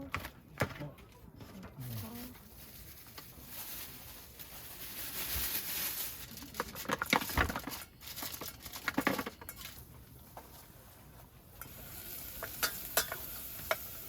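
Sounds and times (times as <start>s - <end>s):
aluminium foil crinkling: 1.5s - 10.8s, 11.6s - 14.0s.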